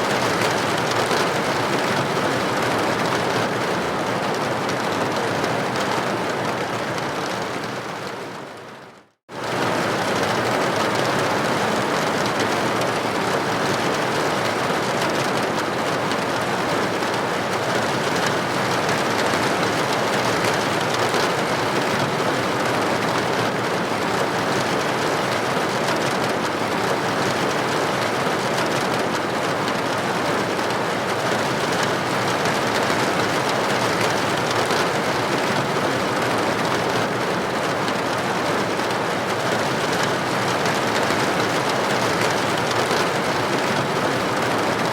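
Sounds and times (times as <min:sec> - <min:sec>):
rain hitting a window: 0:00.0 - 0:44.9.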